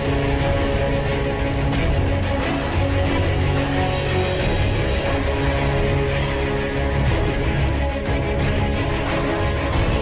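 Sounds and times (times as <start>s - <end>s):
background music with sustained tones: 0.0s - 10.0s.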